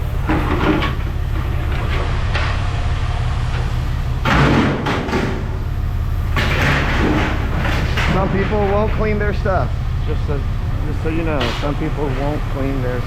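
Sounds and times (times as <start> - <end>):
knocks and clatter: 0.0 - 12.7
low mechanical rumble: 0.0 - 13.0.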